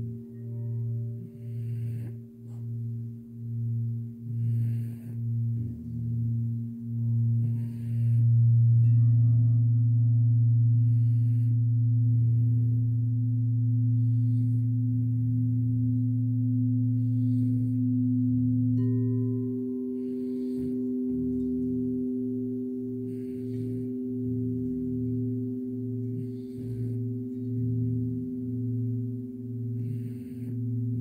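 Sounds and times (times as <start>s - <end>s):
crystal singing bowls ringing: 0.0s - 31.0s.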